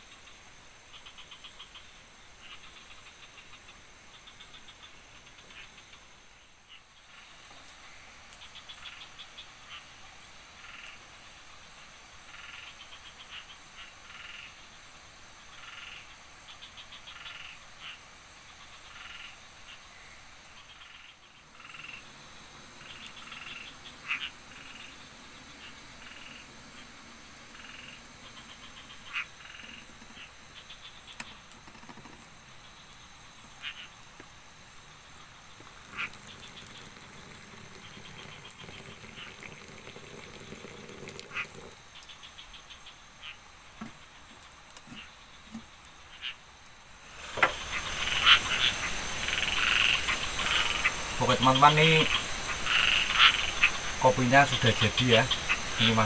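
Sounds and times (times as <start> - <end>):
frogs croaking and trilling: 0.0 - 56.0.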